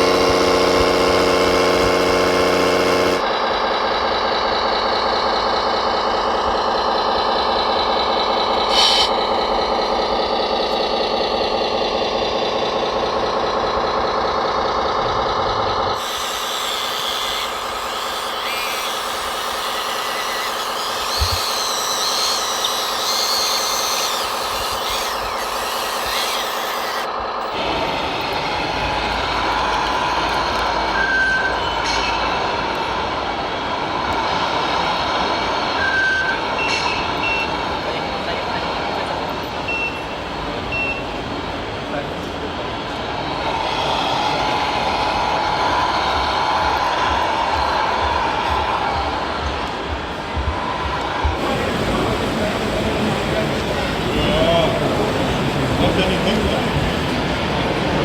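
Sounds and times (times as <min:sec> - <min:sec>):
rc truck engine running: 0:00.0 - 0:58.0.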